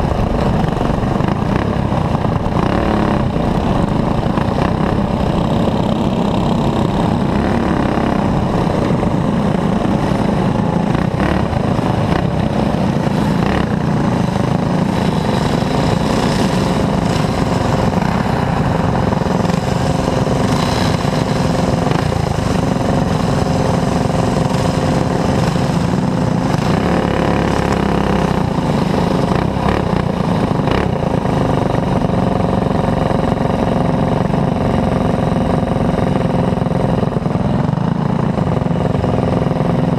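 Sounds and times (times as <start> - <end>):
kart engine racing: 0.0 - 39.9
other kart engines: 0.0 - 39.9.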